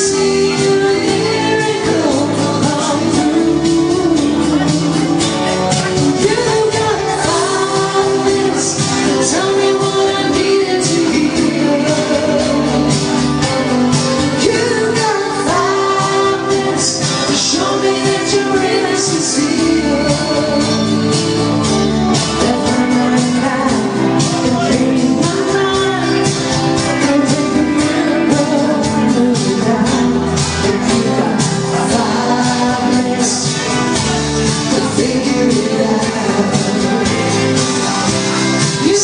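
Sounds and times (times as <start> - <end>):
pop backing track: 0.0 - 39.0
woman singing karaoke: 0.0 - 39.0.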